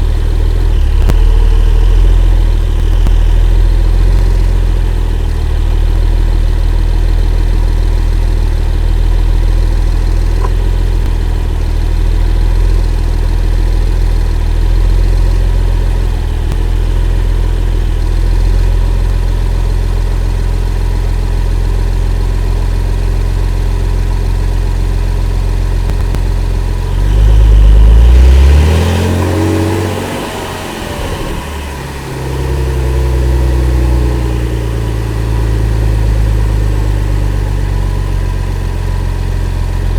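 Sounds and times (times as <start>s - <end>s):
sports car engine idling and revving: 0.0s - 39.9s.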